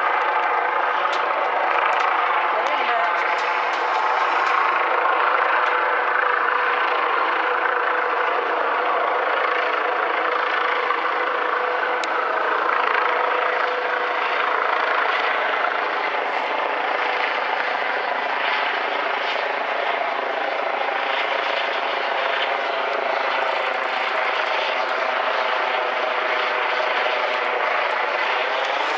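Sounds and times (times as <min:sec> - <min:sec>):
helicopter rotor and engine drone: 0:00.0 - 0:28.9.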